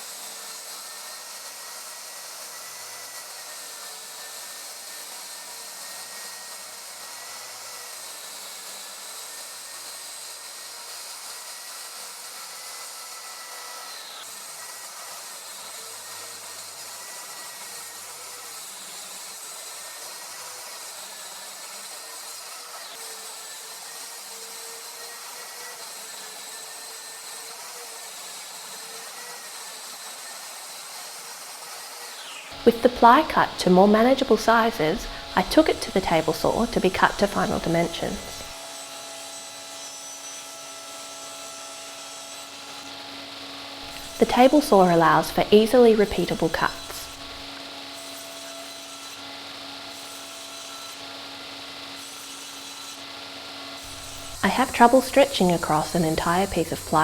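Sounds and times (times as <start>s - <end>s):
track saw cutting plywood: 0.0s - 57.0s.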